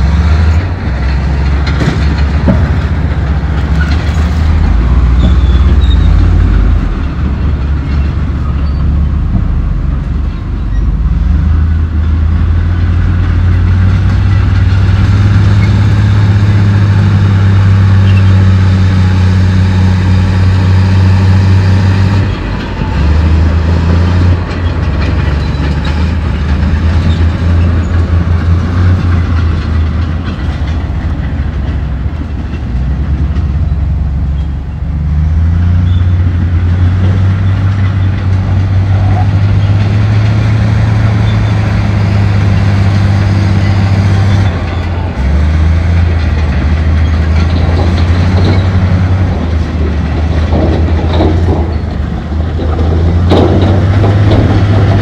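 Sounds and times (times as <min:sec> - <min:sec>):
diesel engine droning: 0:00.0 - 0:55.0
steel tracks clattering: 0:00.0 - 0:55.0.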